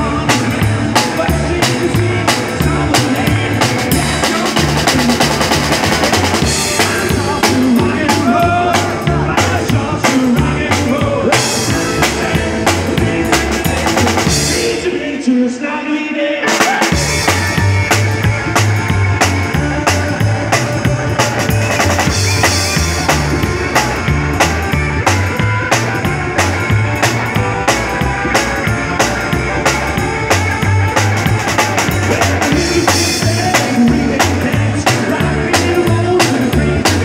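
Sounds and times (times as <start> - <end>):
low bass line: 0.0 - 15.0, 17.0 - 37.0
drums keeping fast beat: 0.0 - 15.2, 16.4 - 37.0
live rockabilly band playing: 0.0 - 15.5, 16.4 - 37.0
electric guitar: 0.0 - 37.0.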